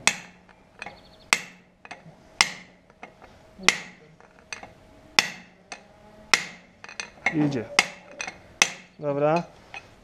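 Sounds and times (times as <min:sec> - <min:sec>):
hammer striking metal chisel: 0:00.0 - 0:09.9.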